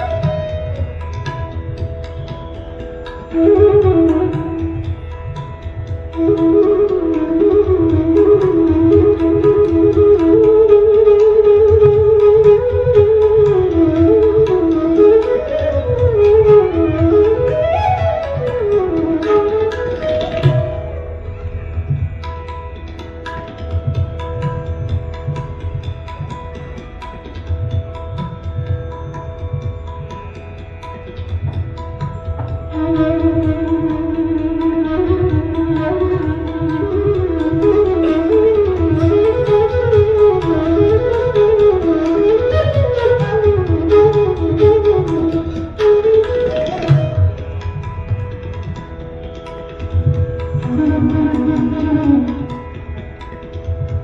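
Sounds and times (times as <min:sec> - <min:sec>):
flute melody: 0:00.0 - 0:21.9, 0:31.6 - 0:54.0.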